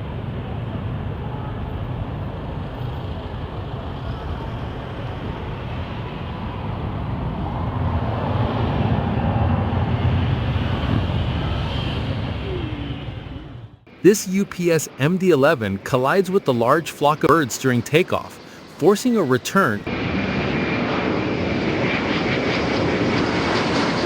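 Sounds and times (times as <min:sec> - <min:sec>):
jet engines passing low: 0:00.0 - 0:24.0.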